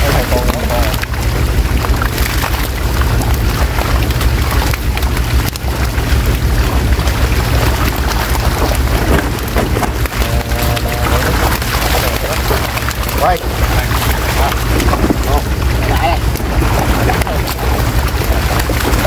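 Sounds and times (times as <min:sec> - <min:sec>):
fish thrashing and splashing: 0:00.0 - 0:19.0
steady low rumble: 0:00.0 - 0:19.0.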